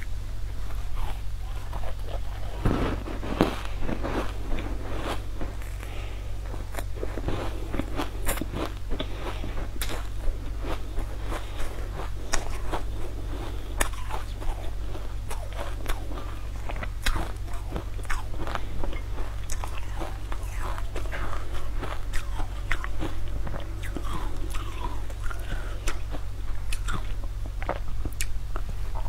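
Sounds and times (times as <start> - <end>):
crunchy biting and chewing: 0.0 - 29.0
steady low hum: 0.0 - 29.0.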